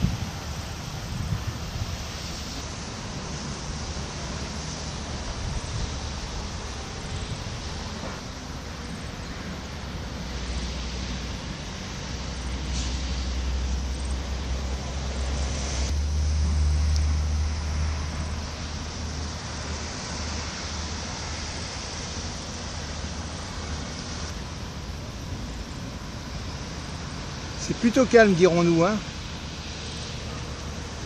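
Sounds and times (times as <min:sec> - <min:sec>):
faint hiss: 0:00.0 - 0:31.0
low outdoor rumble: 0:00.0 - 0:31.0.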